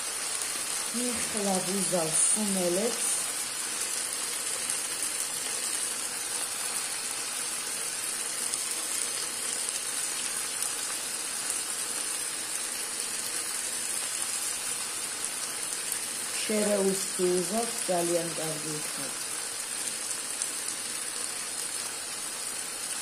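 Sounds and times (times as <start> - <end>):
rice sizzling and bubbling: 0.0 - 23.0.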